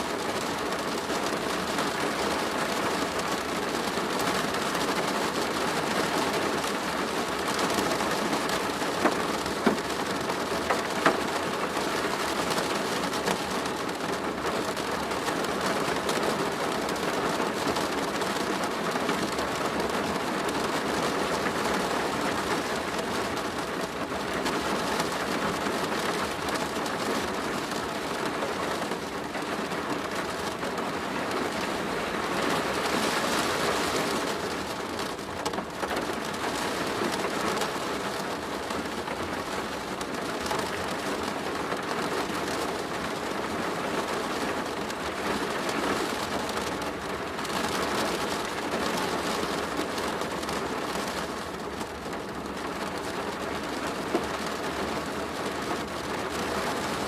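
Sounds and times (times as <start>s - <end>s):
rain on a plastic roof: 0.0s - 57.0s.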